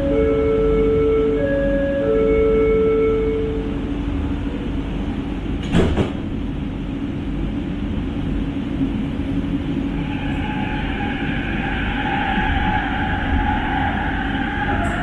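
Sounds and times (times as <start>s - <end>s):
metro car rumble: 0.0s - 15.0s.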